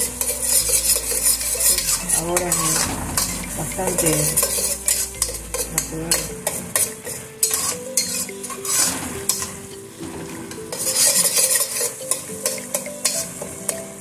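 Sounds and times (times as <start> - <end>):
frying sizzle: 0.0 - 14.0
metal spoon scraping a pot: 0.0 - 14.0.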